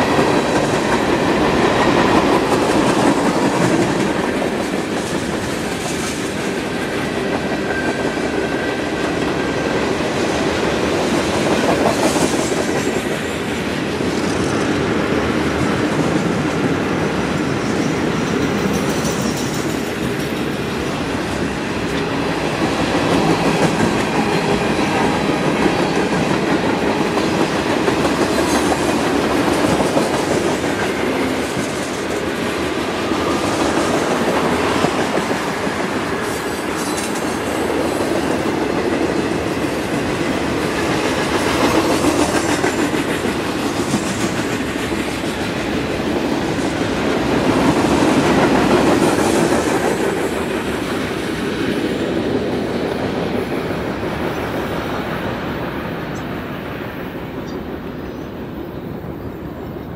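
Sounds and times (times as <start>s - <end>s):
freight train cars rolling: 0.0s - 59.9s.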